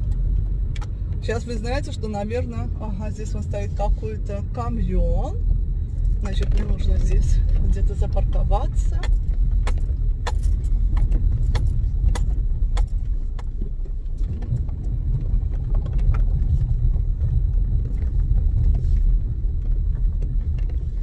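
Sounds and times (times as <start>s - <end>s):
car interior low rumble: 0.0s - 21.0s.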